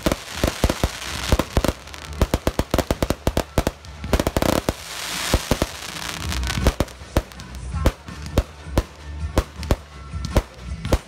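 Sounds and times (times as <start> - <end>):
crackle of sparks: 0.0 - 11.0
fireworks bangs: 0.0 - 11.0.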